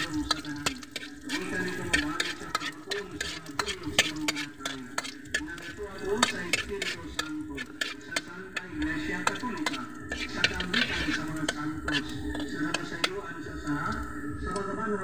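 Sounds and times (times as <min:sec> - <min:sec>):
food sizzling in oil: 0:00.0 - 0:15.0
spatula scraping wok: 0:00.0 - 0:15.0.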